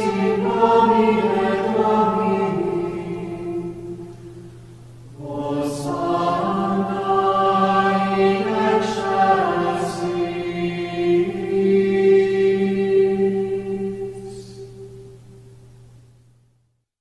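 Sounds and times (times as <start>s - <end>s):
voices chanting in held notes: 0.0s - 15.5s.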